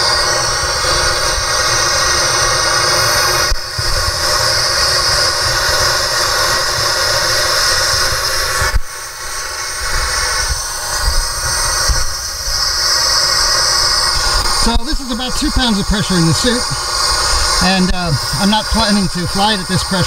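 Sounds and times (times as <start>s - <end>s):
air rushing through hoses: 0.0s - 20.0s.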